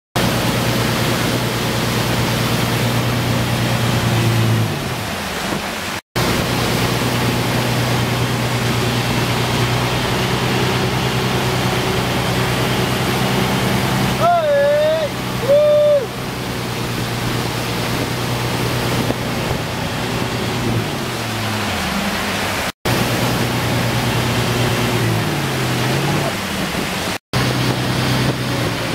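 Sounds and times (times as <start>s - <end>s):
churning wake water: 0.2s - 28.9s
motorboat engine running: 0.2s - 28.9s.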